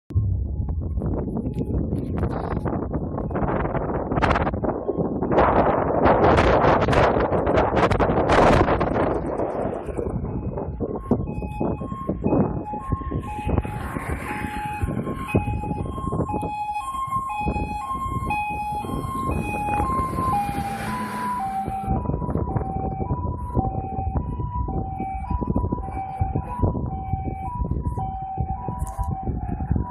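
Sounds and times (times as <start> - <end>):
truck engine and tyre noise: 0.1 - 29.9
two-tone fire engine siren: 0.1 - 29.9.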